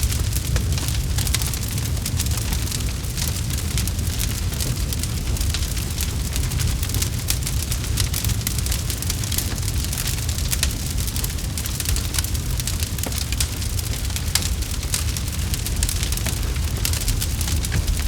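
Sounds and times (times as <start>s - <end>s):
campfire pops and snaps: 0.0s - 18.0s
low rumble of fire: 0.0s - 18.0s.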